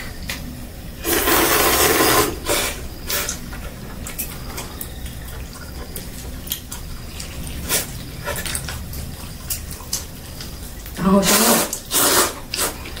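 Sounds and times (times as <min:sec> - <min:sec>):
noodles slurping: 0:01.0 - 0:13.0
wet chewing: 0:01.4 - 0:13.0.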